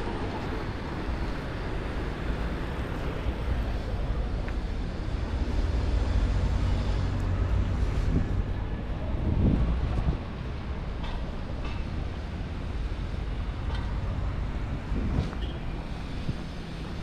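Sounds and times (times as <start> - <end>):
rumble of passing traffic: 0.0 - 17.0.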